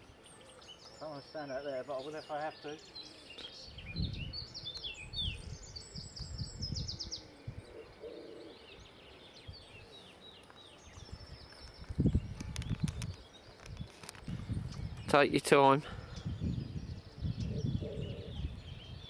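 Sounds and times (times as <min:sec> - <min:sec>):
small birds singing: 0:00.0 - 0:19.0.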